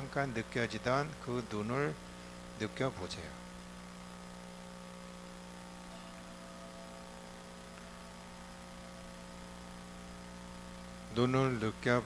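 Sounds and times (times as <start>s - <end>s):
electrical hum with faint hiss: 0.0s - 12.0s.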